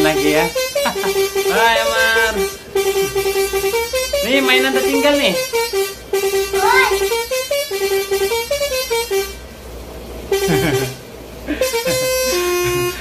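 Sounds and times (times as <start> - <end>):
musical air horn playing tune: 0.0 - 9.4, 10.3 - 13.0.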